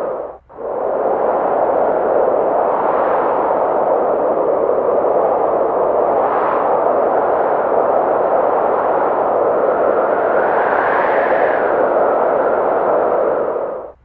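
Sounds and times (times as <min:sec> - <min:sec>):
snowstorm wind rushing: 0:00.0 - 0:14.0.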